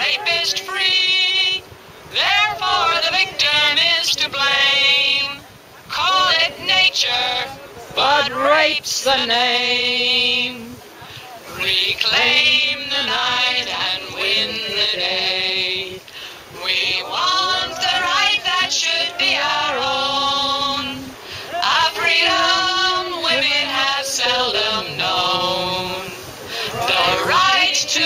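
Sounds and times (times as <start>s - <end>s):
women singing together: 0.0s - 28.0s.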